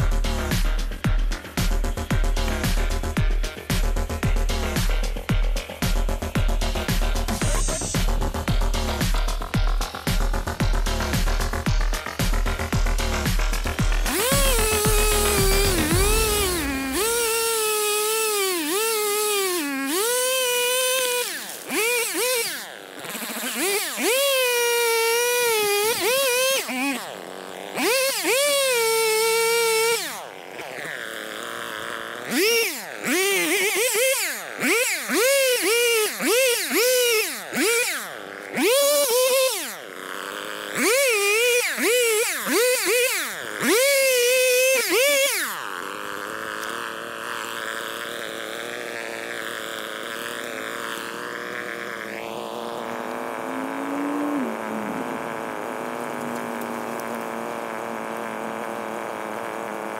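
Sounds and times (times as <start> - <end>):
chainsaw revving while cutting: 0.0 - 59.9.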